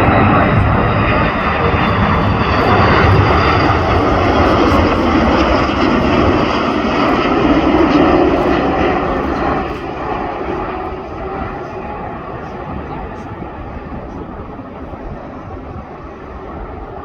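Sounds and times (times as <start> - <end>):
jet airliner roar: 0.0 - 17.0.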